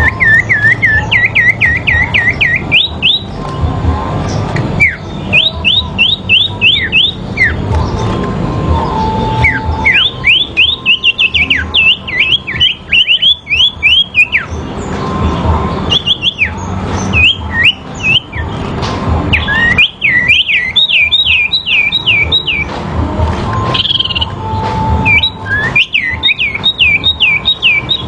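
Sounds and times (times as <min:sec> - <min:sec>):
birds whistling swooping notes: 0:00.0 - 0:22.7, 0:23.4 - 0:28.0.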